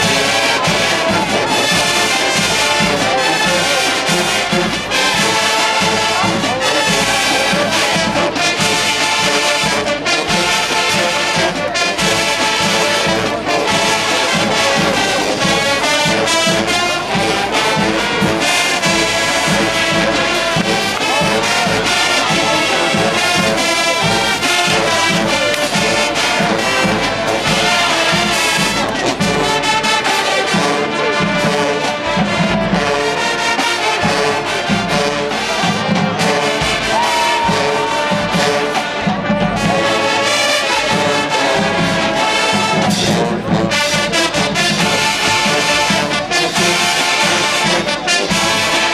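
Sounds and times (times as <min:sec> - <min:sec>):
drum beat: 0:00.0 - 0:48.9
marching band brass: 0:00.0 - 0:48.9.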